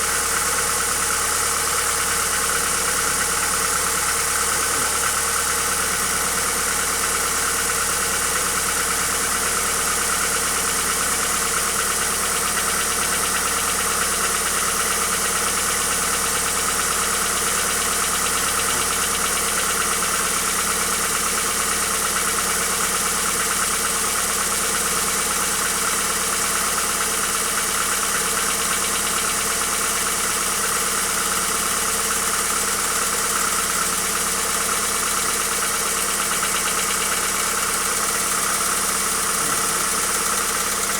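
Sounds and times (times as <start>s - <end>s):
car engine idling: 0.0s - 40.9s
rhythmic engine knock: 0.0s - 40.9s.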